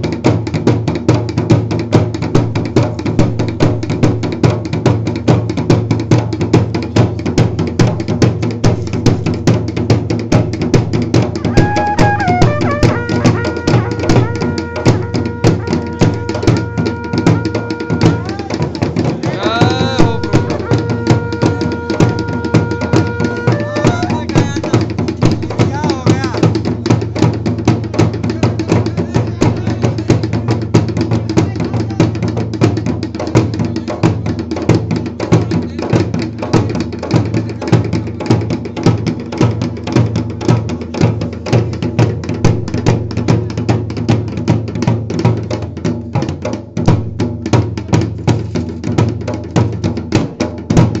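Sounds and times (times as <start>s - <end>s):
dhol drum folk rhythm: 0.0s - 51.0s.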